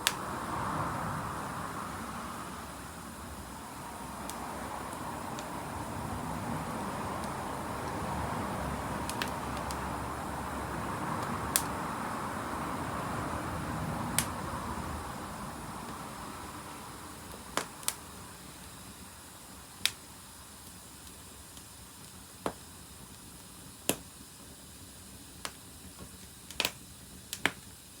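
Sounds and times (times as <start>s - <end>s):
steady hiss: 0.0s - 28.0s
wood fire crackling and popping: 0.0s - 28.0s.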